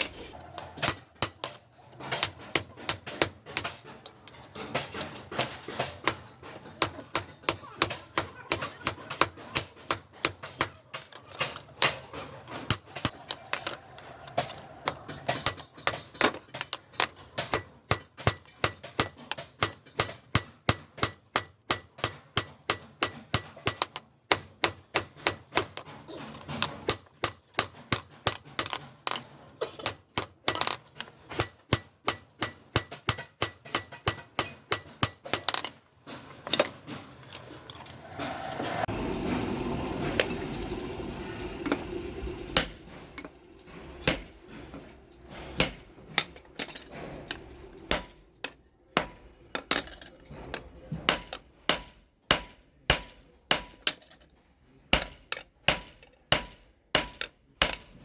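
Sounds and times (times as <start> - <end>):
hammer striking steel on anvil: 0.1 - 25.9, 29.8 - 35.8, 36.4 - 54.3, 54.9 - 58.0.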